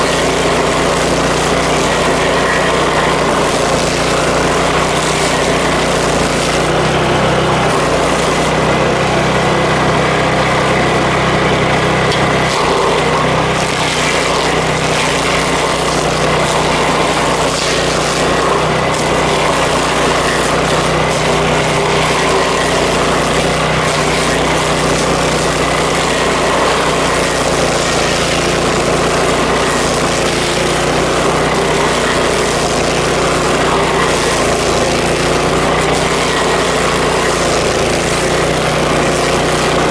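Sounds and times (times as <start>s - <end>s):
stump grinder running: 0.0s - 39.9s.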